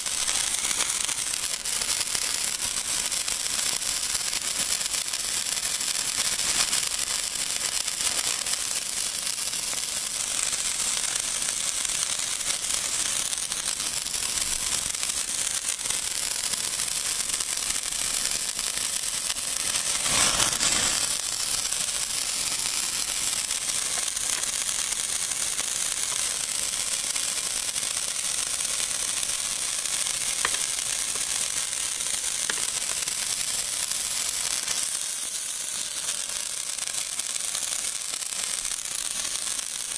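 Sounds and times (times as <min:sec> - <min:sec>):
sparklers hissing and crackling: 0:00.0 - 0:39.9.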